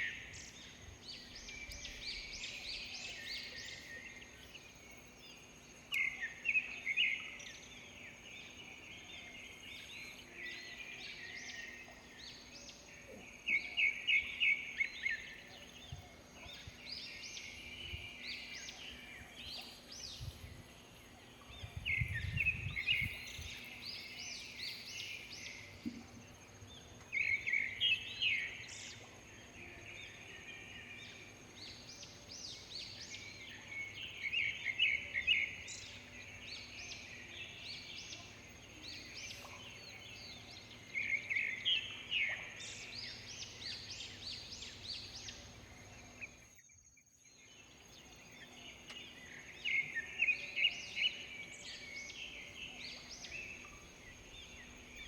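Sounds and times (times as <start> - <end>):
bird chirping song: 0.0 - 55.0.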